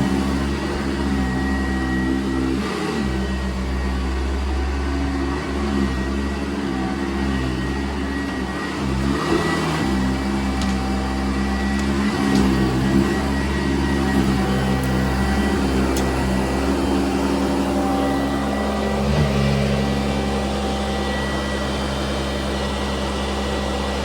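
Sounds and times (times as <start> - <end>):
vacuum cleaner running on carpet: 0.0 - 24.0.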